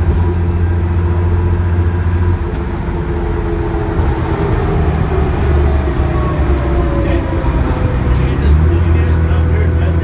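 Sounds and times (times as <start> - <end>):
diesel bus engine drone: 0.0 - 10.0
tyre and road noise: 0.0 - 10.0.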